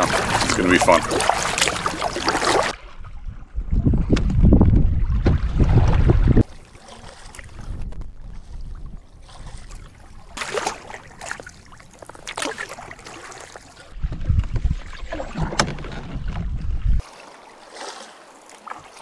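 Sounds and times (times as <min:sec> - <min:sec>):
paddle splashing in water: 0:00.0 - 0:03.1, 0:04.0 - 0:19.0.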